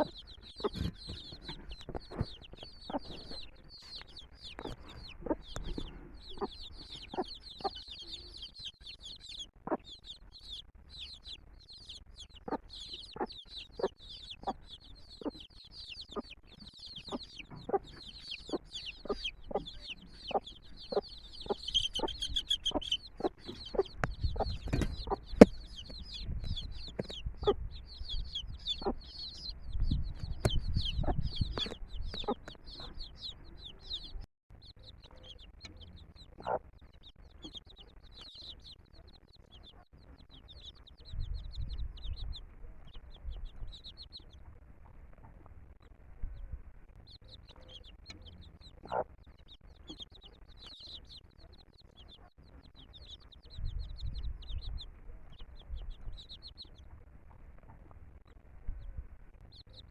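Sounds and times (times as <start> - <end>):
hen clucking: 0.0 - 45.5, 47.3 - 58.4
chicks peeping: 0.0 - 59.9.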